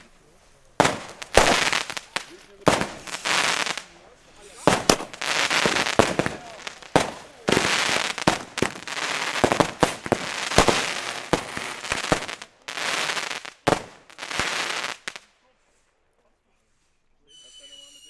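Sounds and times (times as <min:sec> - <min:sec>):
firecrackers banging: 0:00.0 - 0:15.3
hissing crackling noise: 0:00.0 - 0:15.3.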